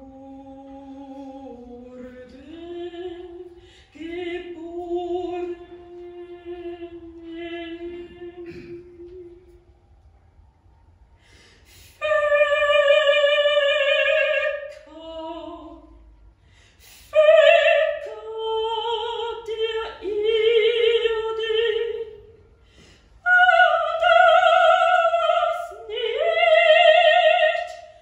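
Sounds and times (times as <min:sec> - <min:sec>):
soprano singing unaccompanied: 0:00.0 - 0:09.6, 0:11.9 - 0:16.0, 0:16.9 - 0:22.4, 0:23.2 - 0:28.0.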